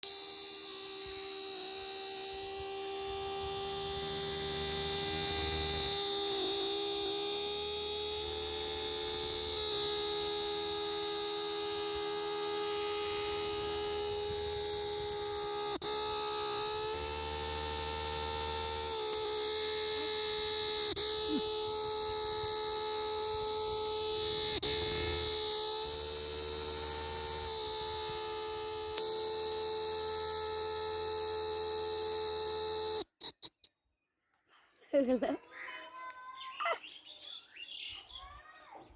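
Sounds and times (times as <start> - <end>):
crickets trilling: 0.0 - 33.7.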